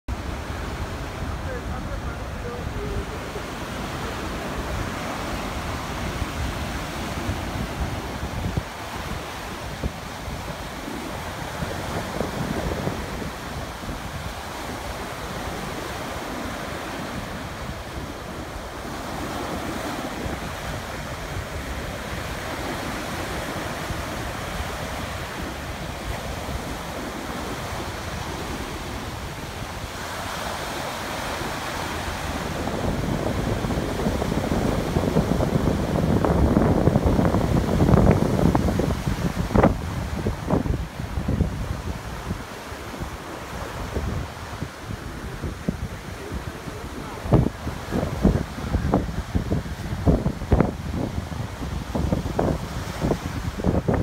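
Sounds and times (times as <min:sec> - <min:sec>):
surf breaking on beach: 0:00.1 - 0:54.0
wind rumbling on microphone: 0:00.1 - 0:54.0.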